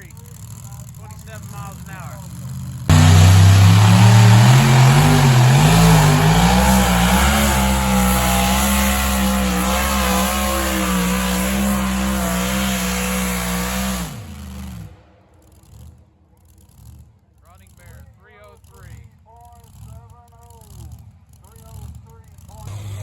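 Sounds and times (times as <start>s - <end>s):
tractor engine revving under load: 0.0s - 17.0s, 19.6s - 23.0s.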